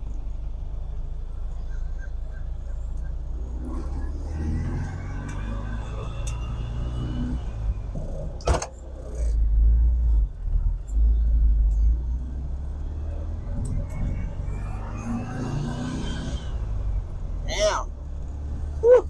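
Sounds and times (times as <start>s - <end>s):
van engine rumbling: 0.0s - 19.0s.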